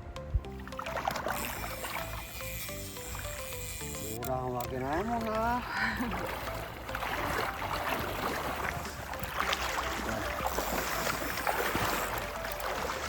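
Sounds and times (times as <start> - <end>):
river water flowing and lapping: 0.0 - 13.0
small clicks and splashes: 0.4 - 13.0.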